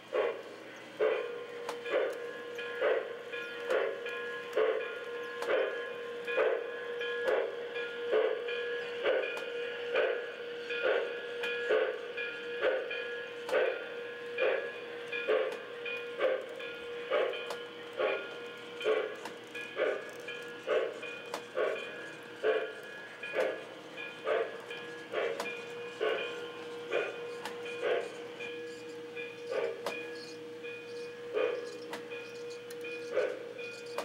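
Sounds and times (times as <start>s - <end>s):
model train rhythmic pulse: 0.0s - 34.0s.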